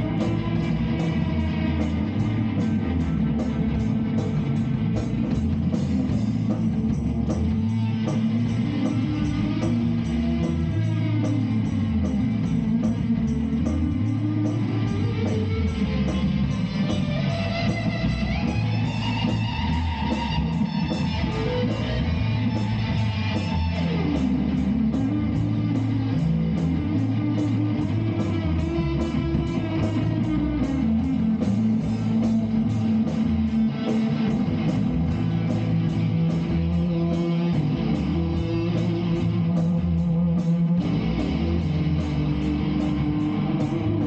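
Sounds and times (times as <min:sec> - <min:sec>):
bass guitar: 0:00.0 - 0:44.0
electric guitar: 0:00.0 - 0:44.0
steady drum beat: 0:00.0 - 0:44.0.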